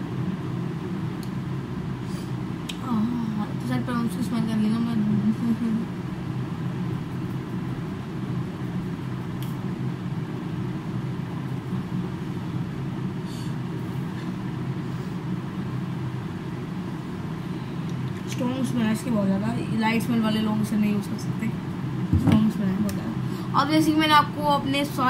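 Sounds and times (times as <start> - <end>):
low mechanical drone: 0.0 - 25.0.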